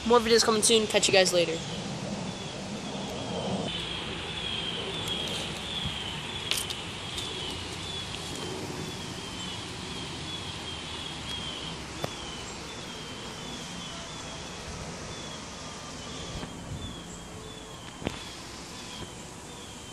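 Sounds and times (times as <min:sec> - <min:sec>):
steady outdoor hiss: 0:00.0 - 0:19.9.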